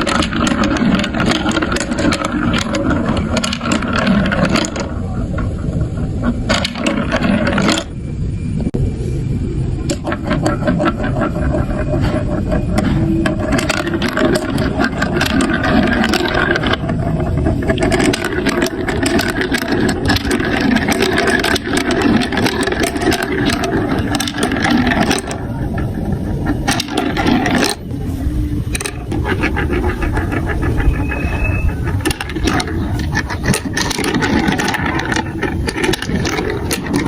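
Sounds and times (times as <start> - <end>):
marbles clicking: 0.0 - 8.0, 9.8 - 37.0
marbles rolling on plastic track: 0.0 - 8.0, 9.8 - 37.0.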